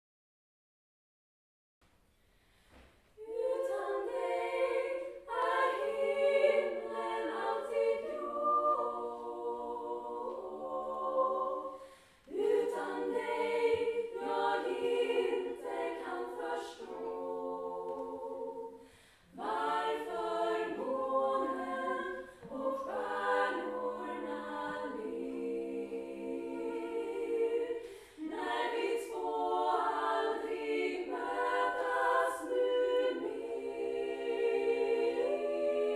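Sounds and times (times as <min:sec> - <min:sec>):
women's choir singing: 0:03.2 - 0:35.9.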